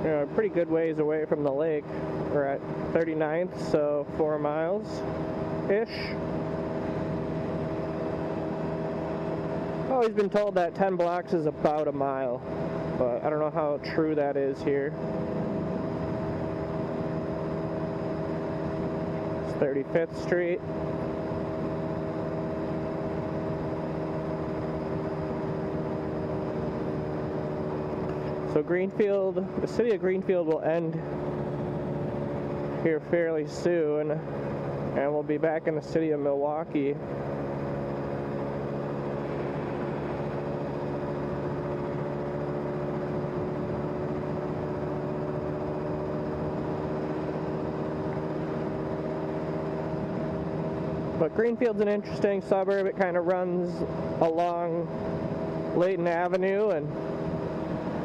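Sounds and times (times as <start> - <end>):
road and wind noise: 0.0 - 58.0
vehicle engine hum: 0.0 - 58.0.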